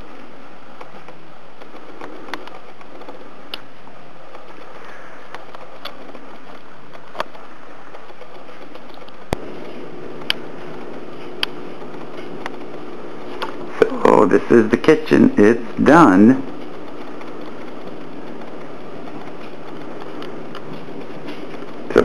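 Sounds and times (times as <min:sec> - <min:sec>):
low steady hum: 0:00.0 - 0:22.0
room noise hiss: 0:00.0 - 0:22.0
sharp clicks: 0:00.8 - 0:14.1, 0:15.9 - 0:20.8.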